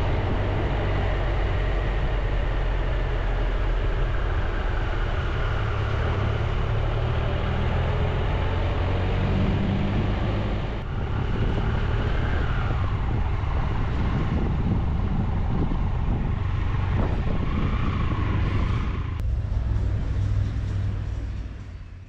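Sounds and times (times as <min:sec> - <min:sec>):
road noise: 0:00.0 - 0:22.0
wind noise: 0:00.0 - 0:22.0.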